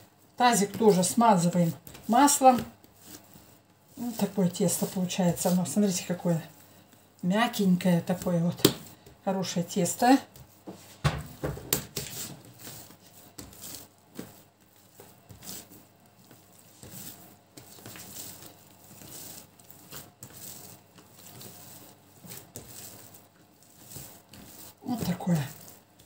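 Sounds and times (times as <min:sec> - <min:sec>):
hands patting dough: 0:00.0 - 0:26.0.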